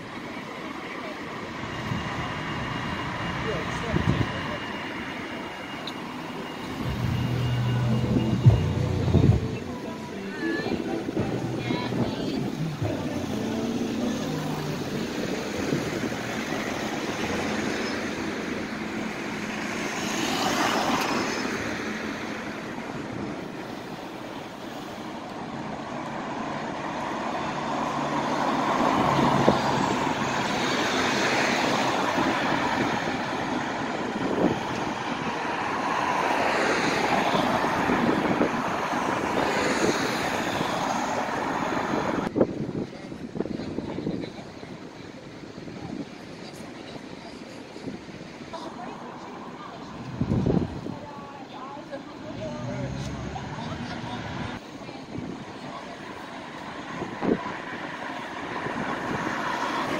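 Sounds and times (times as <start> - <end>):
road traffic driving past: 0.0 - 59.9
tyres hissing on wet road: 0.0 - 59.9.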